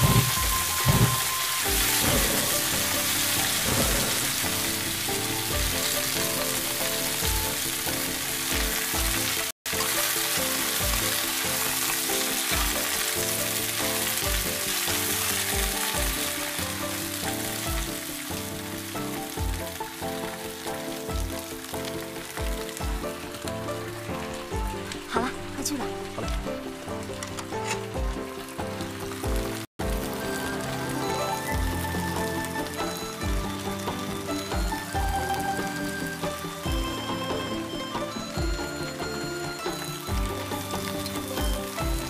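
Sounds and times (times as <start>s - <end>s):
background music with low beat: 0.0s - 20.4s, 25.8s - 42.0s
food sizzling in a wok: 0.0s - 42.0s.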